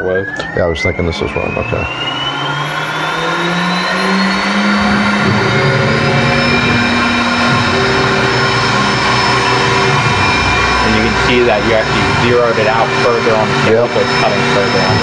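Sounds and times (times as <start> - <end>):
low motor tones: 0.0 - 15.0
router spindle whine: 0.0 - 15.0.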